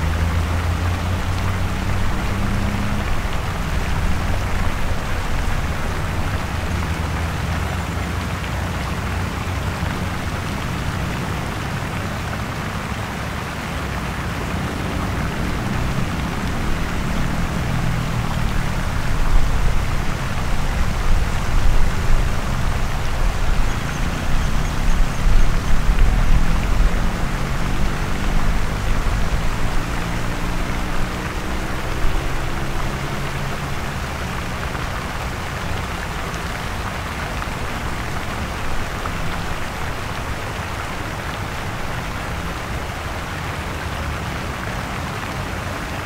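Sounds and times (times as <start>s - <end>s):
heavy engines: 0.0s - 46.0s.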